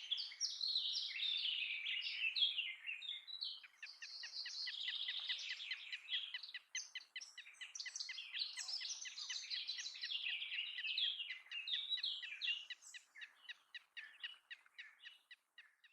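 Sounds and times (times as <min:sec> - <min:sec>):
birds chirping rapidly: 0:00.0 - 0:15.9.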